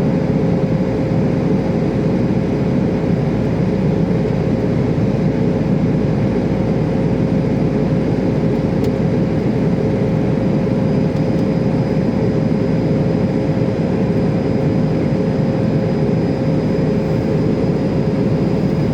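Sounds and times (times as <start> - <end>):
airliner cabin drone: 0.0 - 18.9.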